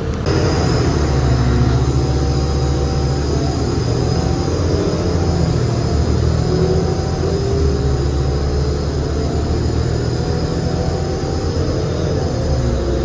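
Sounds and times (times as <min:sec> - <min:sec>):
bus diesel engine rumble: 0:00.0 - 0:13.0
faint gliding whine: 0:00.0 - 0:13.0.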